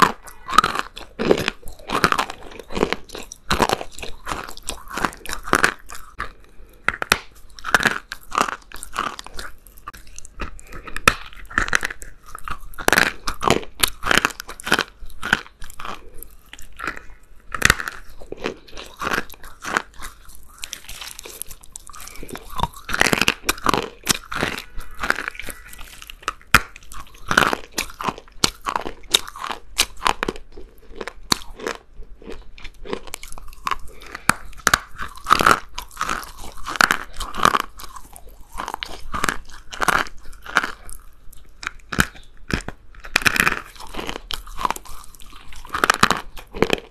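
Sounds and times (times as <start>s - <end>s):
person chewing crunchy clay: 0.0s - 46.9s.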